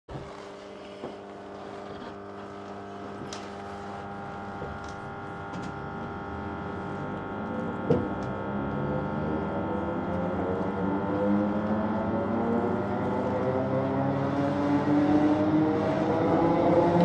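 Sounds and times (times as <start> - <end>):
electric train motor hum: 0.1 - 17.0.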